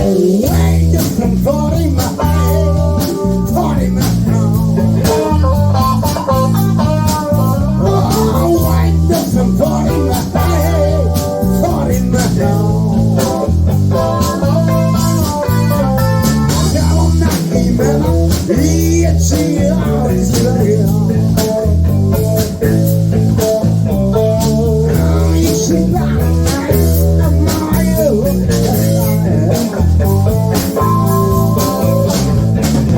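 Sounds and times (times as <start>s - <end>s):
bass guitar: 0.0s - 32.9s
bending guitar melody: 0.0s - 32.9s.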